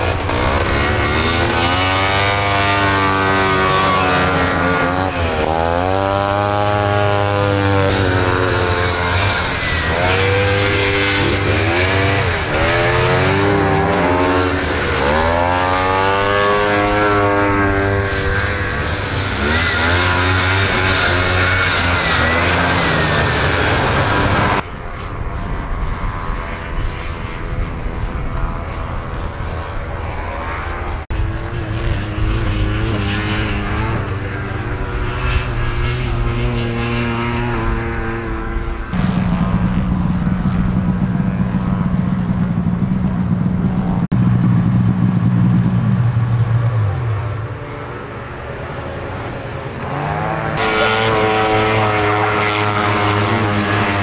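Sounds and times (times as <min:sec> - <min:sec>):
snowmobile engines idling and revving: 0:00.0 - 0:54.0.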